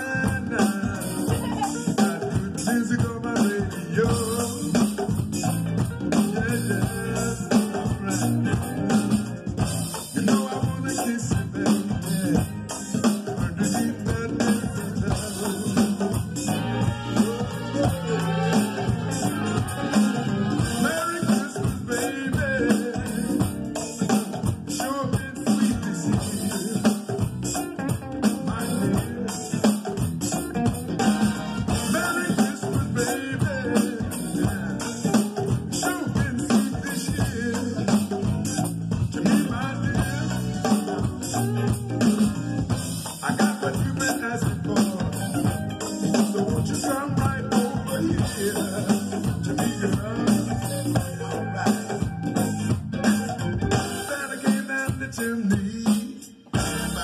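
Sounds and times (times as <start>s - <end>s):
song with singing and drums: 0.0s - 57.0s.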